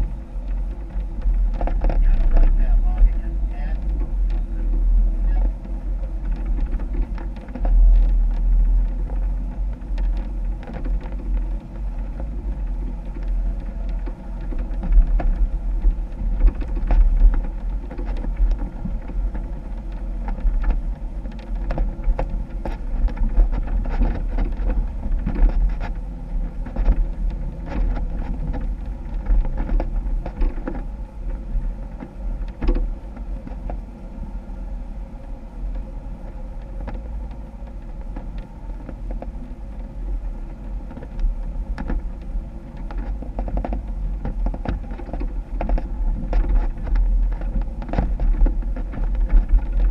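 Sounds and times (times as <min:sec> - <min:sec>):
jeep engine rumbling: 0:00.0 - 0:49.9.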